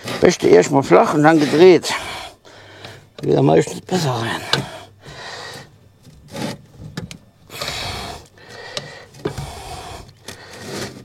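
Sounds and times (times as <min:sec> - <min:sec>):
tire lever scraping wheel rim: 0:00.0 - 0:02.0, 0:02.8 - 0:11.0.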